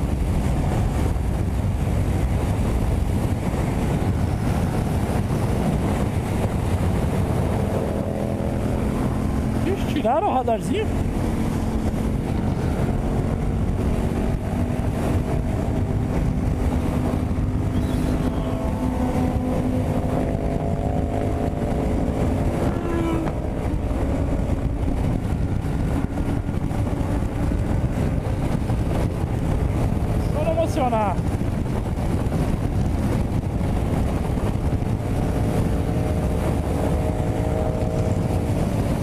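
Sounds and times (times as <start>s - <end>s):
motorcycle engine at speed: 0.0s - 39.0s
wind rush on microphone: 0.0s - 39.0s.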